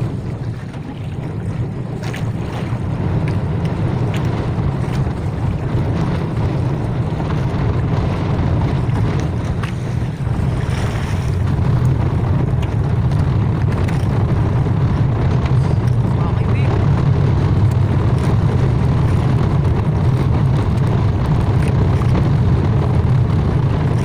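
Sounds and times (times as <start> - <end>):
choppy sea washing around boat: 0.0 - 24.0
wind buffeting microphone: 0.0 - 24.0.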